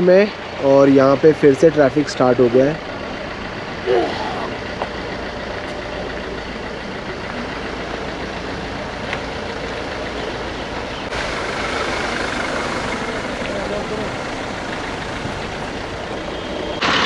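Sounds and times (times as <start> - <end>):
traffic noise from inside car: 0.0 - 17.0
van passing close: 0.0 - 17.0.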